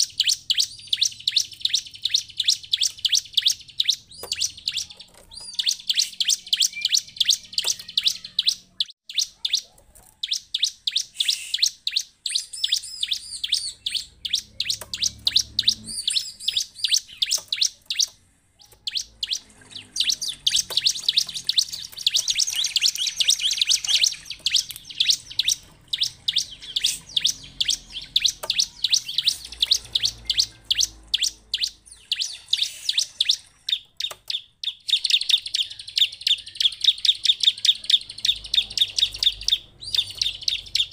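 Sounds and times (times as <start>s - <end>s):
bird rapid sharp chips: 0.0s - 40.9s.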